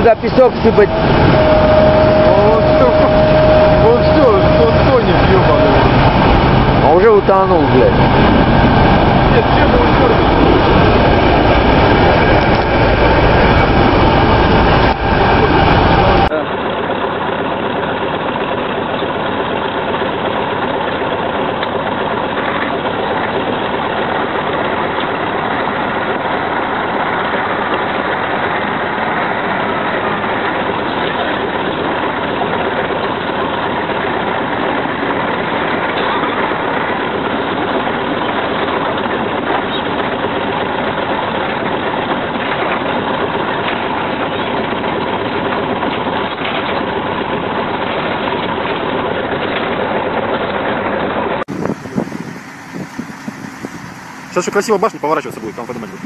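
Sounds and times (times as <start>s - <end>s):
heavy truck engine under load: 0.0s - 56.0s.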